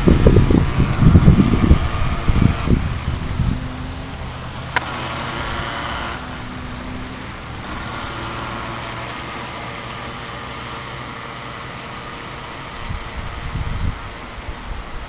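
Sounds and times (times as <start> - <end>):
electric boat motor whirring: 0.0 - 15.0.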